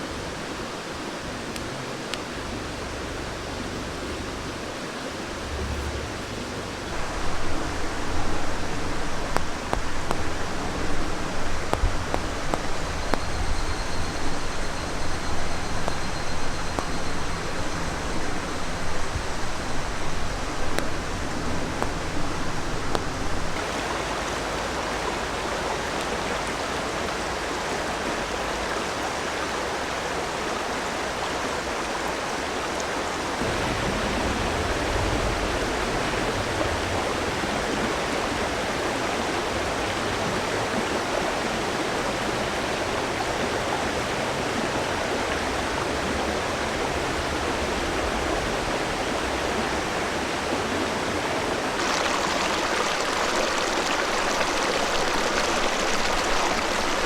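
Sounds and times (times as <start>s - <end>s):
river rushing water: 0.0s - 57.0s.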